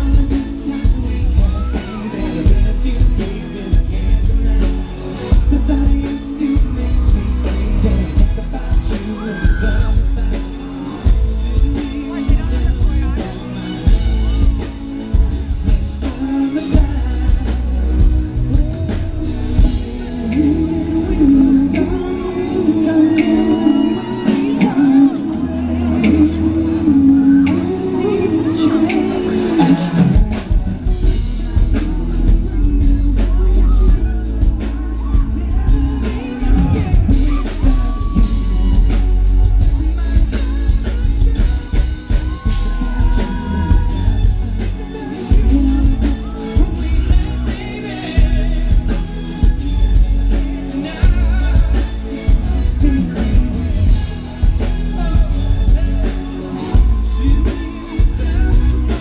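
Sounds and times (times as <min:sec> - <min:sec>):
drums: 0:00.0 - 0:59.0
group singing live: 0:00.0 - 0:59.0
heavy bass: 0:00.0 - 0:59.0.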